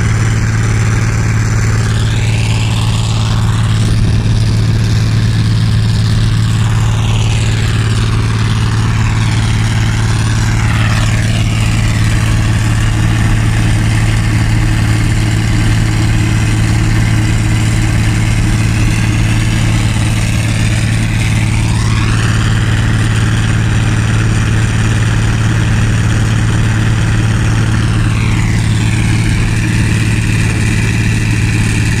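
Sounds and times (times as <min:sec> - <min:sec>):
combine harvester droning: 0:00.0 - 0:32.0.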